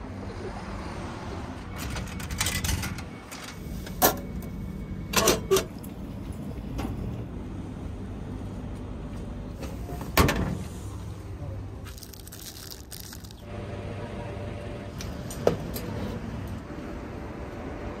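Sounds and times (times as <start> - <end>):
vending machines humming: 0.0 - 18.0.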